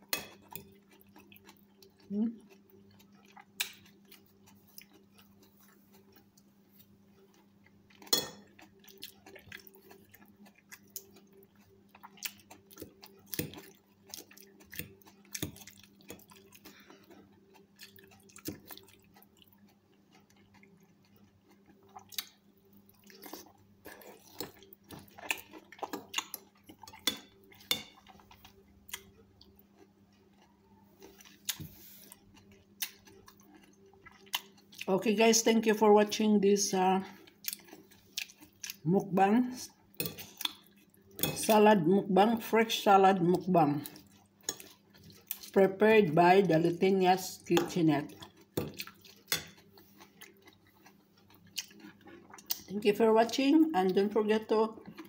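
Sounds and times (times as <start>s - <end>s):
chewing salad: 0.0s - 55.0s.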